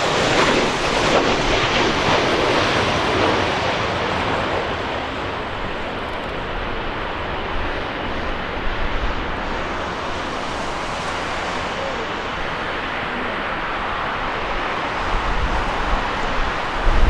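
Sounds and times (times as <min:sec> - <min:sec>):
jet engines rushing: 0:00.0 - 0:17.0
wind buffeting microphone: 0:00.0 - 0:17.0.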